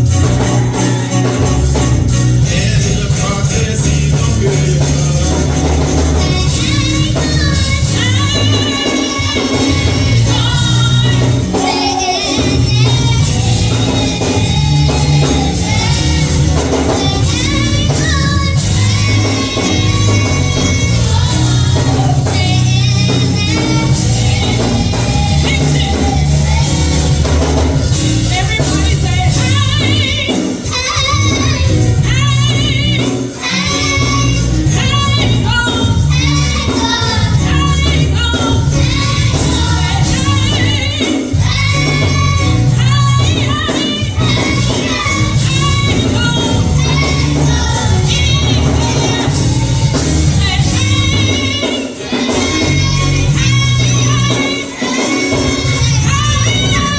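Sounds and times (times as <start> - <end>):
band accompaniment: 0.0 - 56.9
bass line: 0.0 - 56.9
choir singing with vibrato: 0.0 - 56.9.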